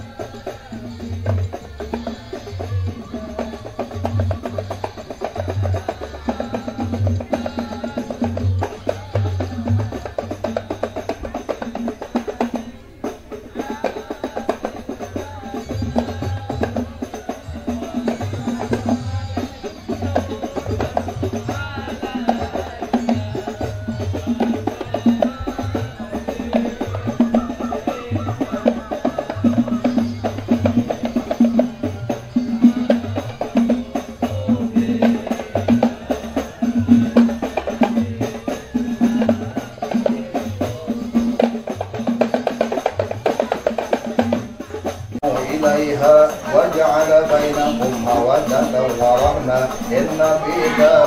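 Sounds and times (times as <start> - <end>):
frame drums beaten rhythmically: 0.0 - 51.0
group of voices singing: 0.0 - 51.0.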